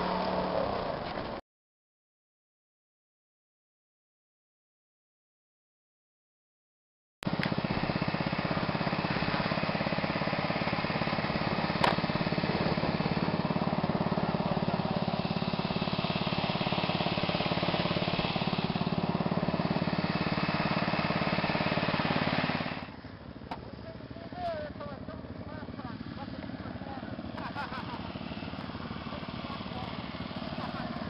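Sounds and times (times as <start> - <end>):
lawn mower engine running: 0.0 - 1.4, 7.2 - 31.0.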